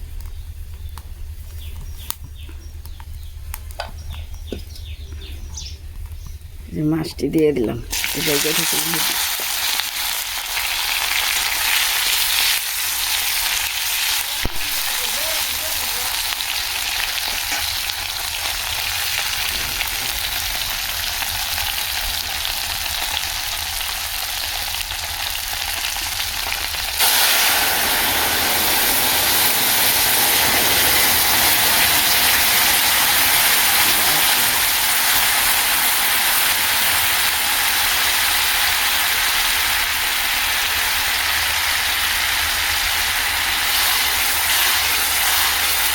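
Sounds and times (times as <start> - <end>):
fish sizzling in hot oil: 7.9 - 45.9.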